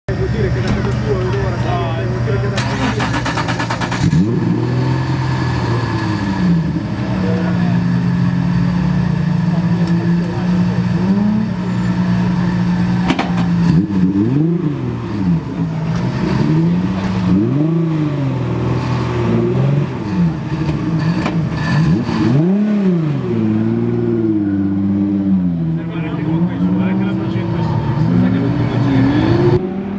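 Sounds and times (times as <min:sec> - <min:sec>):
car engine revving hard: 0:00.1 - 0:29.9.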